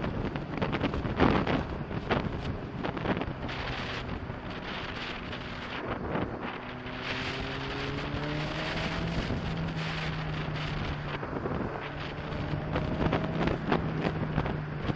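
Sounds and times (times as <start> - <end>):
motorcycle engine: 0.0 - 14.9
wind rushing over microphone: 0.0 - 14.9.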